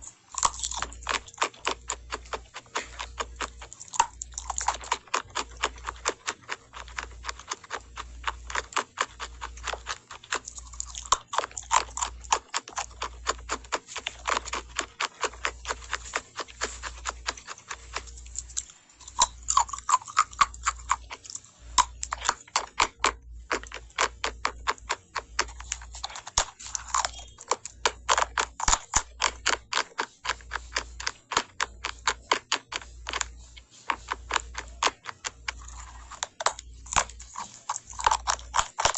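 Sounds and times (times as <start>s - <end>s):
crunching and chewing: 0.0s - 38.9s.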